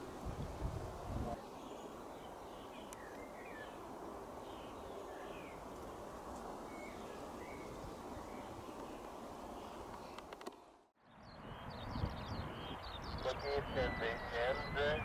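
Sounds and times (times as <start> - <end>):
small birds chirping: 1.4 - 15.0.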